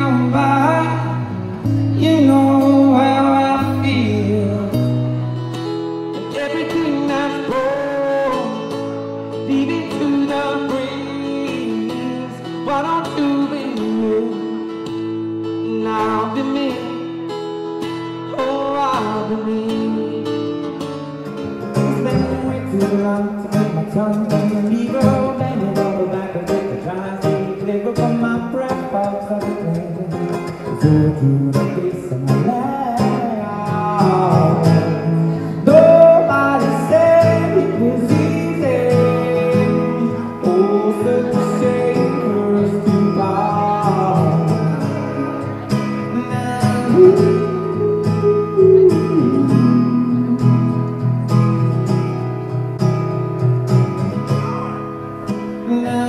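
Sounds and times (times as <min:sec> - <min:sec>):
man singing: 0:00.0 - 0:05.4, 0:06.1 - 0:17.3, 0:18.3 - 0:21.0, 0:21.6 - 0:51.2, 0:55.6 - 0:56.0
acoustic guitar strumming: 0:00.0 - 0:56.0.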